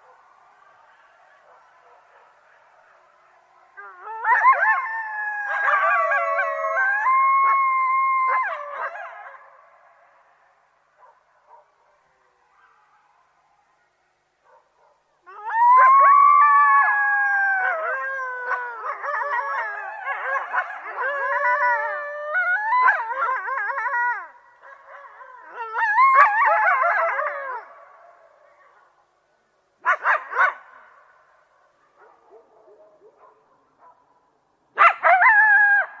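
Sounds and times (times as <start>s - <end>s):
coyotes howling and yipping: 0.0s - 29.0s, 34.8s - 36.0s.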